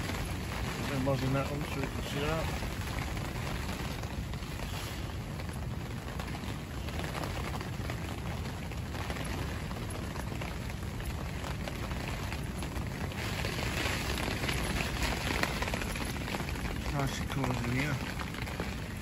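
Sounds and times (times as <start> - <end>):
rain pattering on fabric: 0.0 - 19.0
wind rumbling: 0.0 - 19.0.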